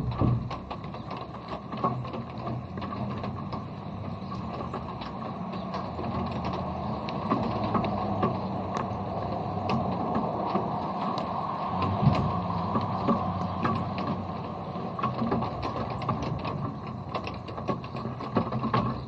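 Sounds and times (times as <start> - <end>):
raindrops ticking close: 0.0 - 19.0
steady rain: 0.0 - 19.0.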